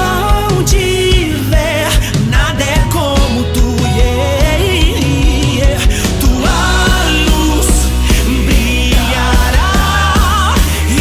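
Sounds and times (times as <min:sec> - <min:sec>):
pop-rock worship song: 0:00.0 - 0:11.0
steady drum beat: 0:00.0 - 0:11.0.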